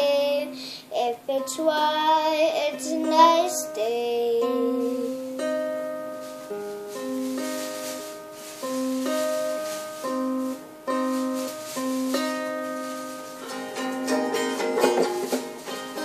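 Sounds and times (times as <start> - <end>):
toy guitar strumming chords: 0.0 - 16.0.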